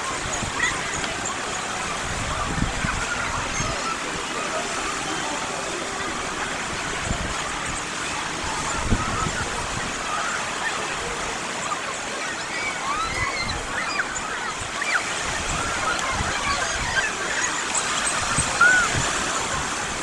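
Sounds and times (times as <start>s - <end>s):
surf hissing on shore: 0.0s - 20.0s.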